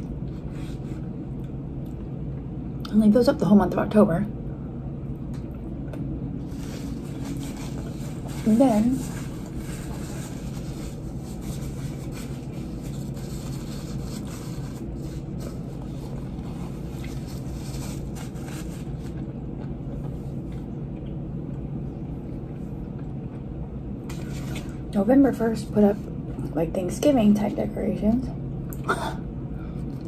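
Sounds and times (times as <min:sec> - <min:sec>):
room hum: 0:00.0 - 0:30.0.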